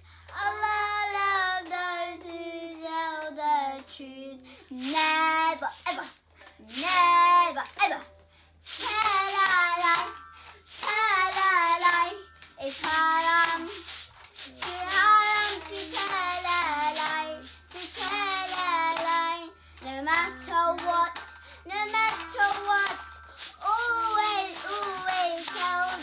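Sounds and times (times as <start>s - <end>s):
toy instruments jingling: 4.4s - 26.0s
bottle shaker rattling: 4.7s - 26.0s.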